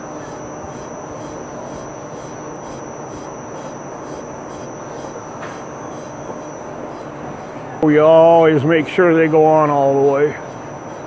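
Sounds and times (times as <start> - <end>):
machine shop background noise: 0.0 - 11.0.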